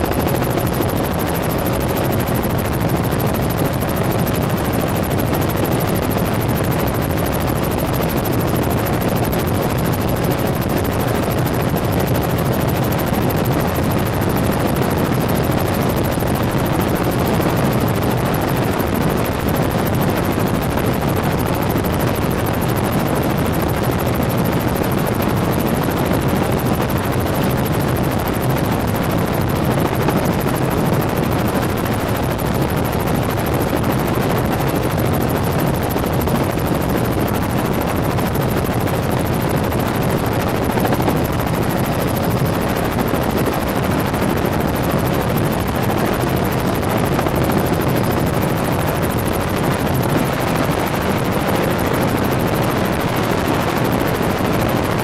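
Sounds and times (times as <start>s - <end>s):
helicopter turbine and rotor drone: 0.0s - 55.0s.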